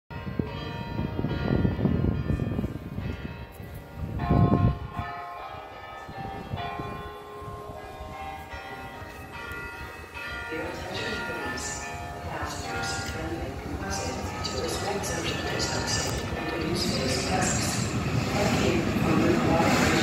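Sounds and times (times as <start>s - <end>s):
church bells pealing: 0.1s - 20.0s.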